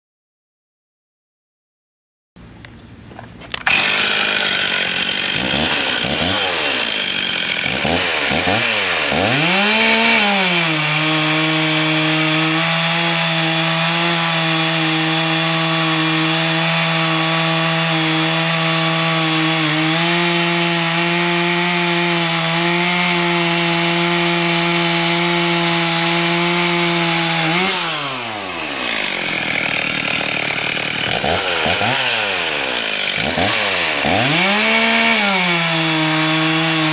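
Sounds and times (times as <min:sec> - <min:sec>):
chainsaw revving: 0:03.5 - 0:36.9.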